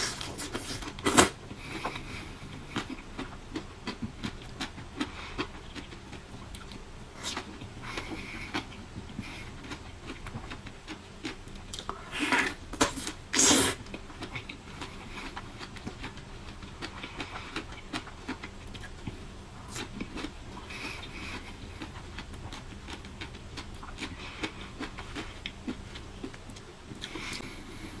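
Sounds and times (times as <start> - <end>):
person chewing fruit: 0.0 - 28.0.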